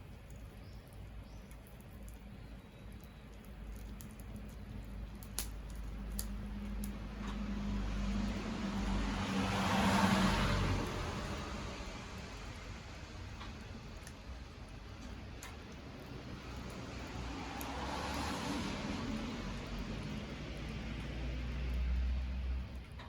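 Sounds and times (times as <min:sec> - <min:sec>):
bonfire burning: 0:00.0 - 0:23.0
fire crackles and pops: 0:00.0 - 0:23.0
rushing noise with low hum: 0:01.6 - 0:23.0.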